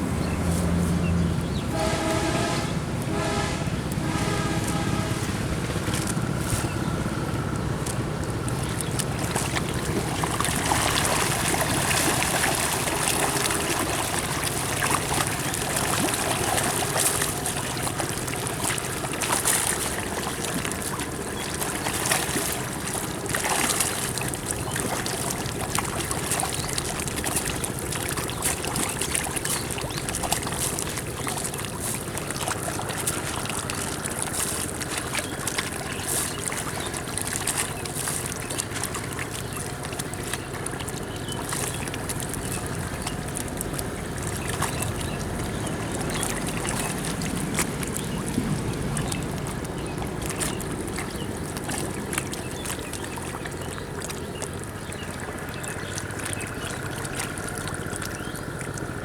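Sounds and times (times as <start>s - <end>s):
pond water sloshing and splashing: 0.0s - 59.0s.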